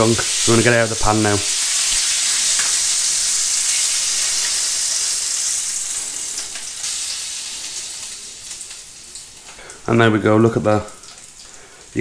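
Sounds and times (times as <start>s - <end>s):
fish sizzling in a grill pan: 0.0s - 9.8s, 10.9s - 12.0s.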